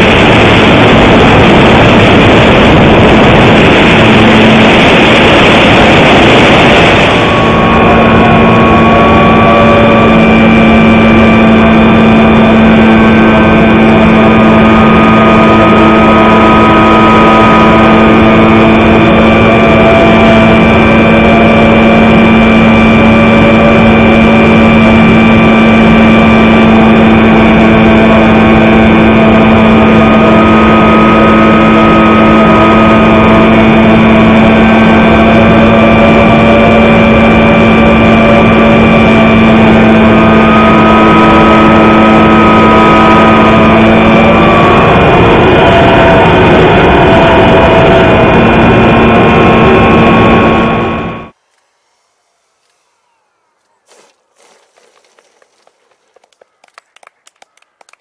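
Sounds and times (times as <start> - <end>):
model airplane motor and propeller: 0.0 - 58.0.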